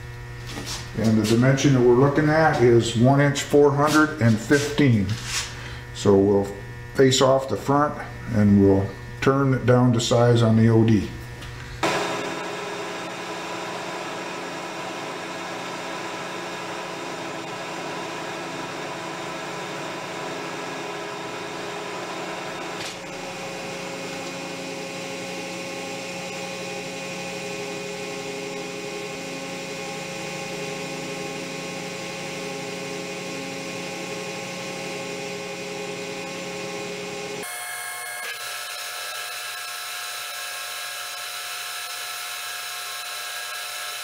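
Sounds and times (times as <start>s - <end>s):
metal lathe hum and whine: 0.0s - 44.0s.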